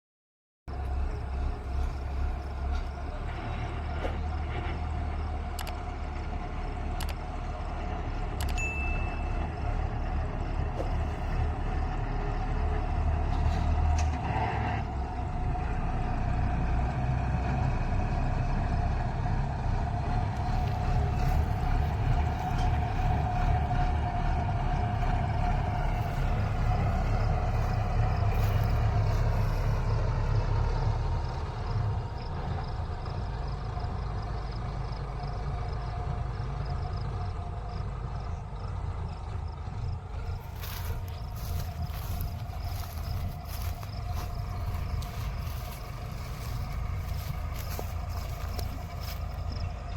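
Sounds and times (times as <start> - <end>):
combine harvester engine rumble: 0.7 - 49.9
machinery whine: 0.7 - 49.9.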